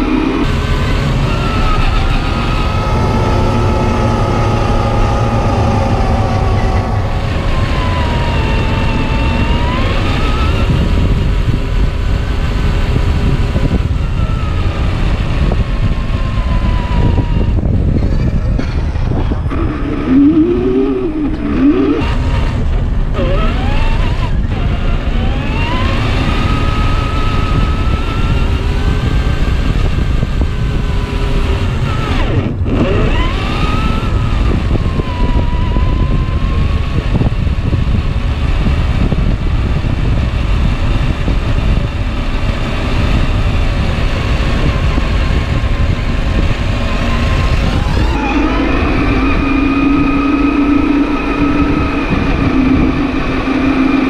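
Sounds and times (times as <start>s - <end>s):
electric motor whining: 0.0s - 54.0s
steady low rumble: 0.0s - 54.0s.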